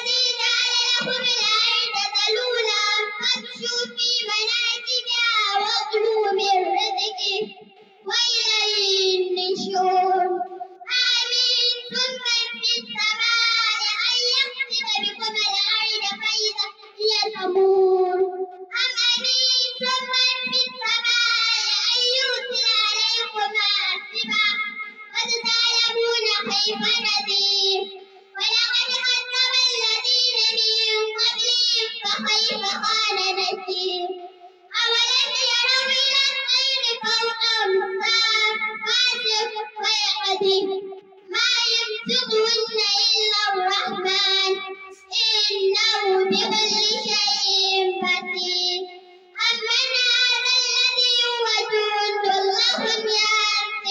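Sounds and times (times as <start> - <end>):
girl chanting into microphone: 0.0 - 53.9.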